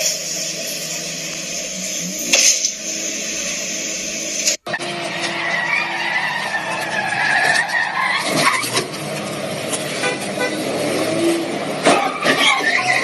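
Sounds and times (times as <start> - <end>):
car engine running: 0.0 - 13.0
car tyres squealing: 0.0 - 13.0.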